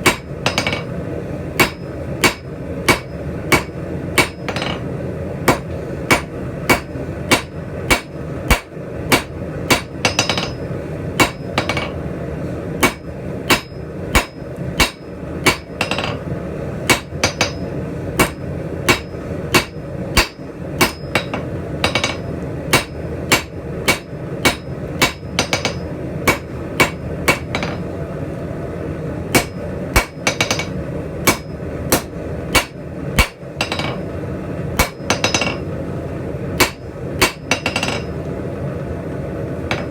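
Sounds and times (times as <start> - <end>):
hammer striking steel on anvil: 0.0 - 1.0, 1.6 - 4.9, 5.5 - 12.0, 12.8 - 16.3, 16.9 - 27.9, 29.3 - 34.2, 34.8 - 35.7, 36.6 - 38.2.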